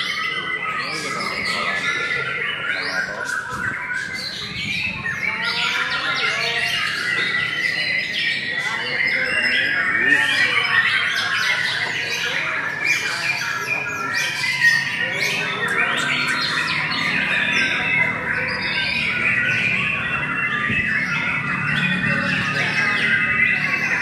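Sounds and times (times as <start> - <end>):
birds singing whistled notes: 0.0 - 24.0.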